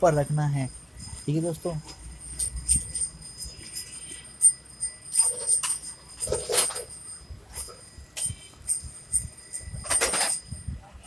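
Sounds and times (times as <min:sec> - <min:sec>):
metal parts clinking and rattling: 0:00.0 - 0:10.8.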